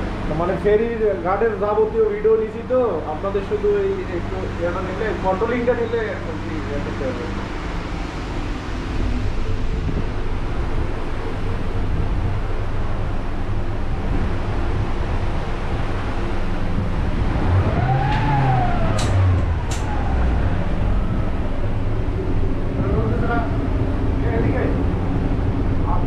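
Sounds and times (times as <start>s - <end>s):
rising and falling whine: 0.0s - 26.0s
ship engine rumble: 0.0s - 26.0s.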